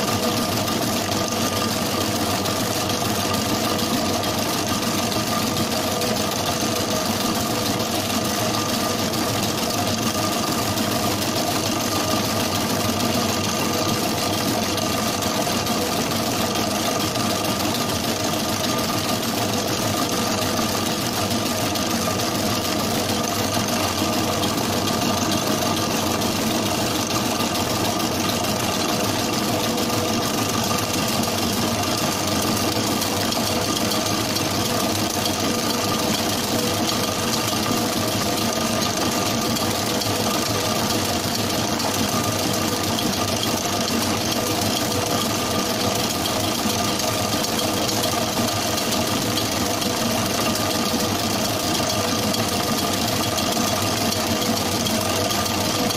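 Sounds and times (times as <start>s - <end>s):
mixing machine humming: 0.0s - 55.9s.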